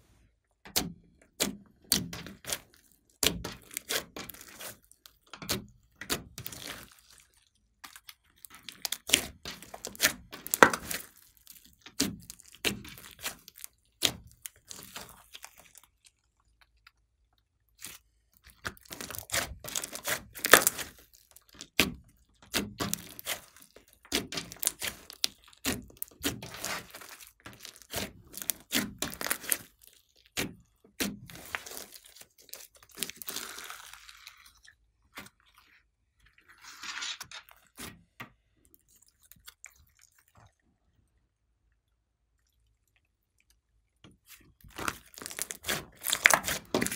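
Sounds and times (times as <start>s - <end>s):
slime squelching: 0.6s - 46.9s.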